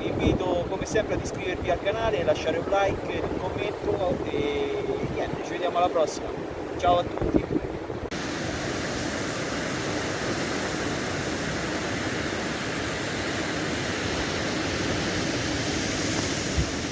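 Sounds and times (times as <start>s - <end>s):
heavy sea surf: 0.0s - 16.9s
wind on the microphone: 0.0s - 16.9s.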